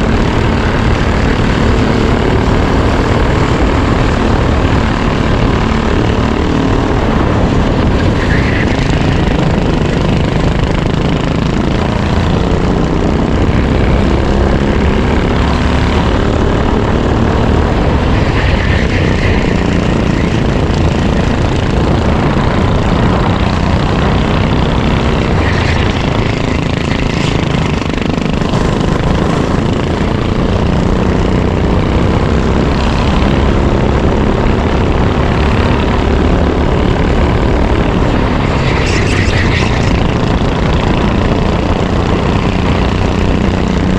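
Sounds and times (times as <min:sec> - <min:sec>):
heavy wind noise: 0:00.0 - 0:43.9
kart engine running hard: 0:00.0 - 0:43.9.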